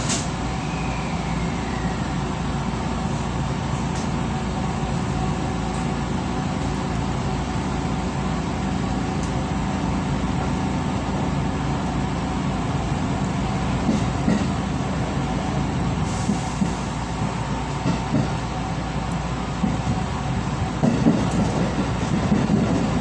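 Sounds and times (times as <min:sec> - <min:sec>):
electric train running hum: 0:00.0 - 0:23.0.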